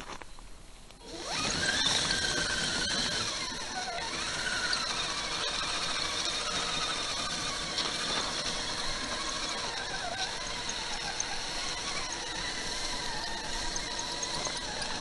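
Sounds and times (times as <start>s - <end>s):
electric motor and track whine: 0.9s - 15.0s.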